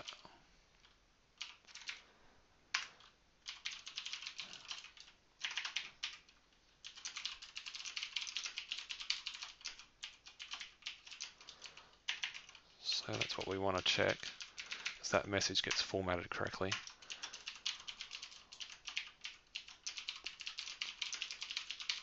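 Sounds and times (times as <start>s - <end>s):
typing on computer keyboard: 0.0s - 2.0s, 2.7s - 15.0s, 16.7s - 22.0s.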